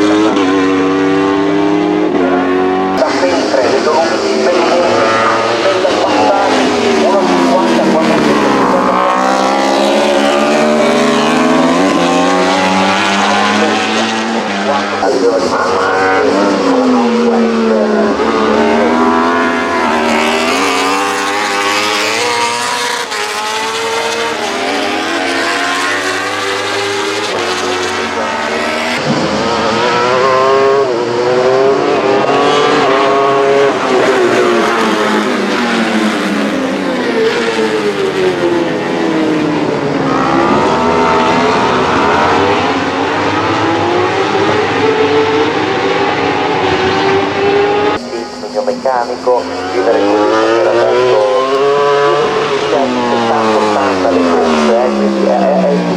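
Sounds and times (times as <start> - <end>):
racing motorcycles revving past: 0.0 - 48.1, 49.1 - 55.9.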